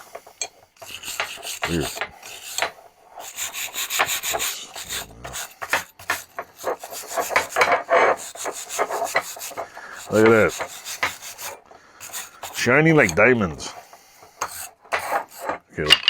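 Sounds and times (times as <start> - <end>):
wire brush scrubbing metal: 0.0 - 15.9.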